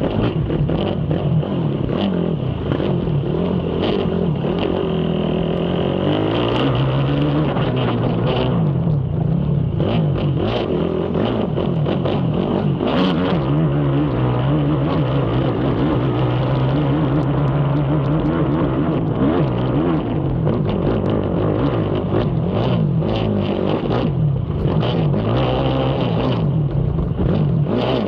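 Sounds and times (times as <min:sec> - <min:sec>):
quad engine revving: 0:00.0 - 0:28.0.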